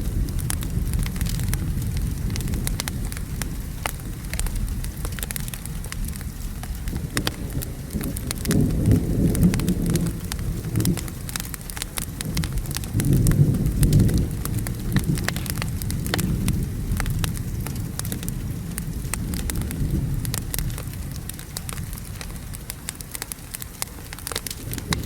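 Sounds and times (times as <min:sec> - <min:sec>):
rolling thunder: 0:00.0 - 0:22.5, 0:24.3 - 0:25.0
rain falling: 0:00.0 - 0:25.0
wood fire crackling: 0:00.0 - 0:25.0.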